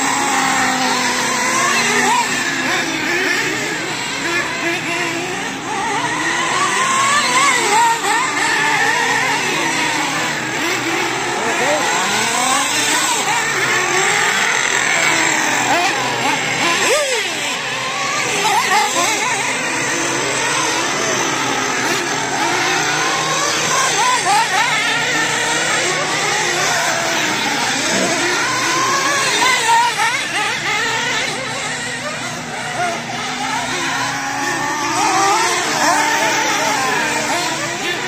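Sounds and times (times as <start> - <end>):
radio-controlled race car motors: 0.0 - 38.0.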